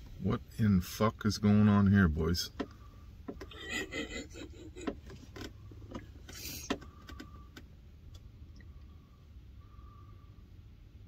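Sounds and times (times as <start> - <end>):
van engine hum: 0.0 - 11.0.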